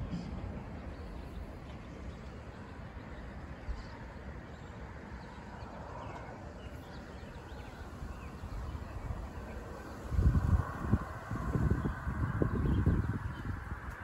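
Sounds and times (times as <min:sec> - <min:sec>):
low wind noise: 0:00.0 - 0:14.0.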